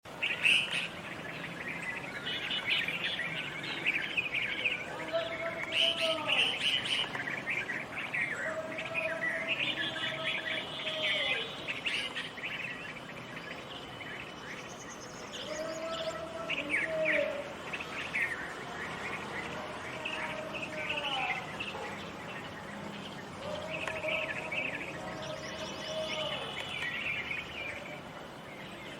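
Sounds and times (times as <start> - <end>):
outdoor background noise: 0.0 - 28.9
small birds chirping: 0.0 - 28.9.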